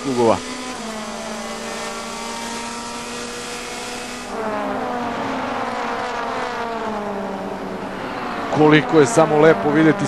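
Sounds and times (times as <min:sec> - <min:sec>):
louder engine pitch sliding down: 0:00.0 - 0:10.0
racing car engines: 0:00.0 - 0:10.0.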